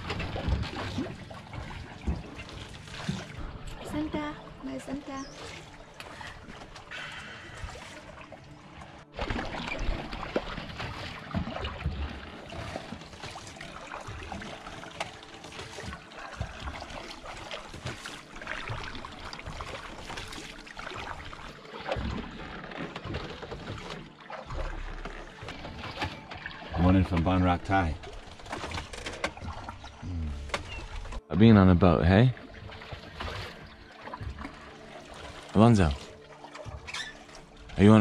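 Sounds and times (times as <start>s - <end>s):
water splashing around a boat: 0.0s - 38.0s.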